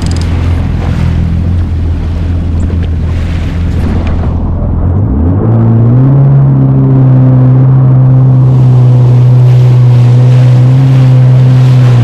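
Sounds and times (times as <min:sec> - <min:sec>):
jet ski engine drone: 0:00.0 - 0:12.0.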